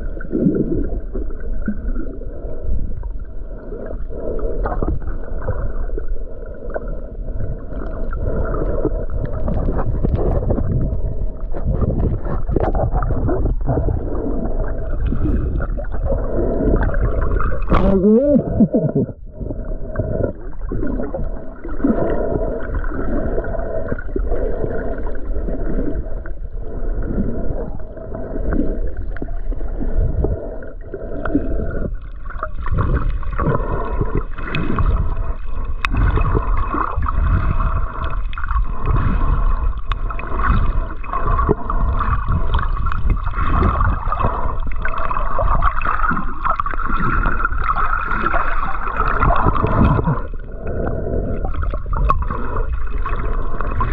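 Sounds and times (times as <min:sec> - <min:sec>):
water sloshing and gurgling: 0:00.0 - 0:53.9.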